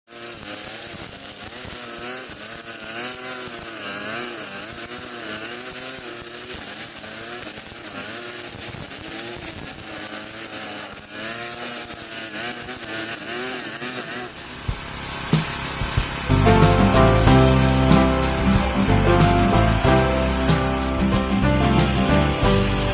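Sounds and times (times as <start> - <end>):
brush cutter engine whining: 0.1 - 22.9.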